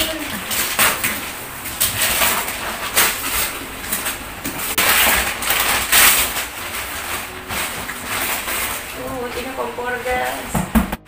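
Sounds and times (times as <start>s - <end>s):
wrapping paper ripping: 0.0s - 10.5s.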